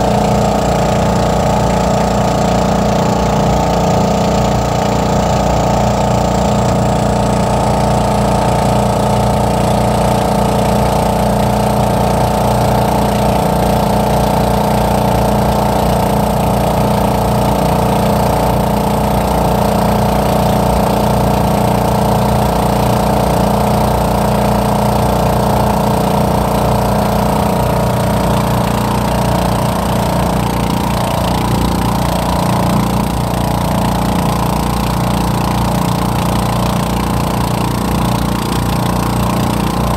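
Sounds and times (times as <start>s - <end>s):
boat engine running: 0.0s - 39.9s
water splashing along hull: 0.0s - 39.9s.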